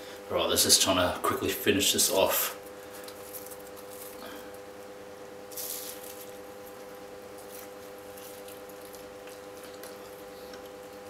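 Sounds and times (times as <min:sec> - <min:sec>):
electric fan hum: 0:00.0 - 0:11.0.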